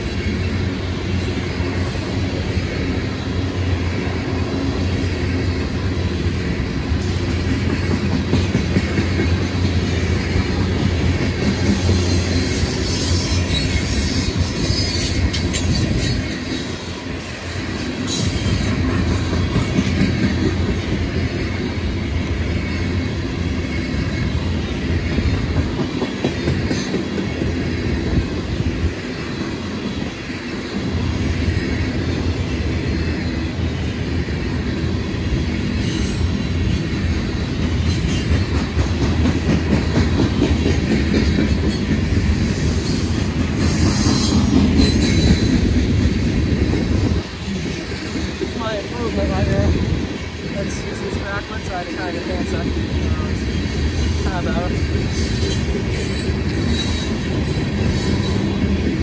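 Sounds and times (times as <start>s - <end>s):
clatter of train cars: 0.0s - 59.0s
train wheels rumbling on rails: 0.0s - 59.0s.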